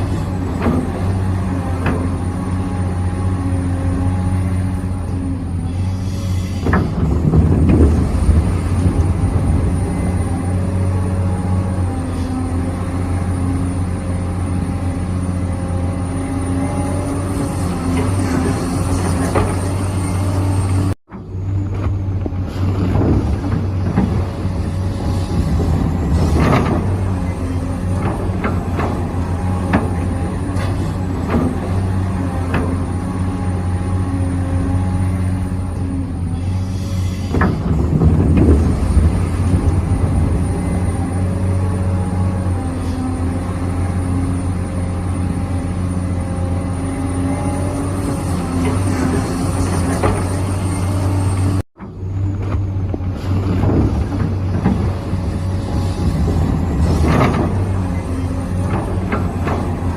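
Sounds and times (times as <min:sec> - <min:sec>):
knocks and scrapes: 0:05.7 - 0:13.8, 0:16.4 - 0:44.4, 0:47.1 - 0:59.9.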